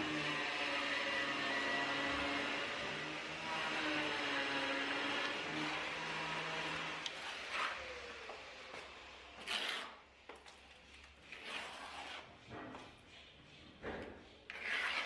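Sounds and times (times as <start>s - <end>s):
hand tool scraping a wall: 0.0s - 8.2s, 9.3s - 15.0s.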